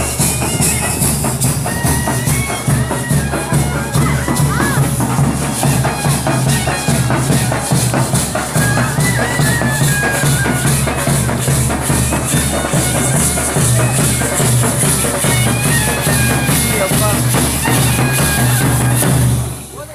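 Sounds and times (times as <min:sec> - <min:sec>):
crowd voices: 0:00.0 - 0:19.9
festival music with drum beat: 0:00.0 - 0:19.9.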